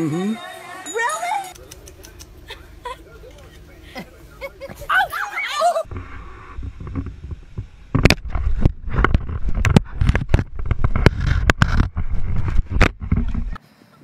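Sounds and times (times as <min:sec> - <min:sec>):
low rumble of handling and water: 0:02.3 - 0:13.6.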